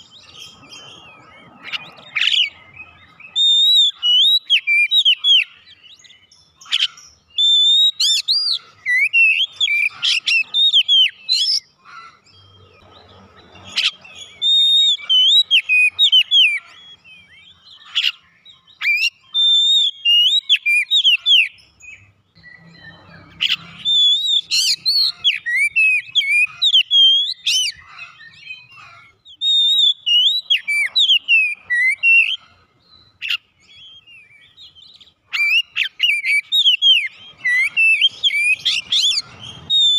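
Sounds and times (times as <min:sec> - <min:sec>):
bird singing whistled phrases: 0:00.0 - 0:11.7, 0:13.7 - 0:32.4, 0:33.0 - 0:39.9.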